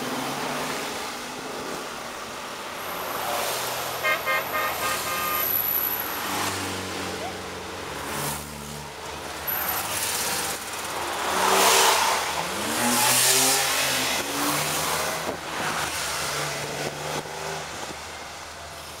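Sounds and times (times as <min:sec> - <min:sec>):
car engines accelerating: 0:00.0 - 0:19.0.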